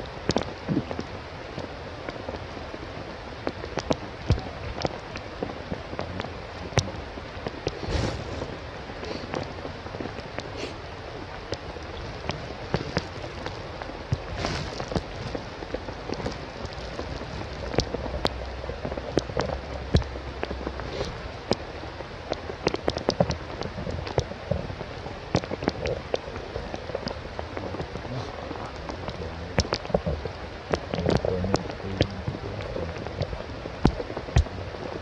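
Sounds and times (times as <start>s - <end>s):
low rumble: 0.0s - 35.0s
steady hiss: 0.0s - 35.0s.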